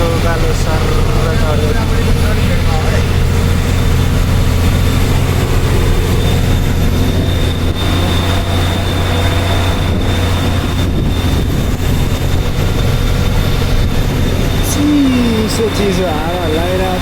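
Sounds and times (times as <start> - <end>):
faint high whine: 0.0 - 17.0
truck engine droning uphill: 0.0 - 17.0.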